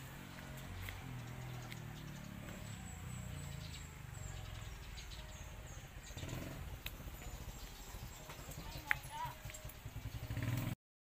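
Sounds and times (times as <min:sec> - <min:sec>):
low outdoor rumble: 0:00.0 - 0:10.8
bird chirping: 0:00.2 - 0:10.7.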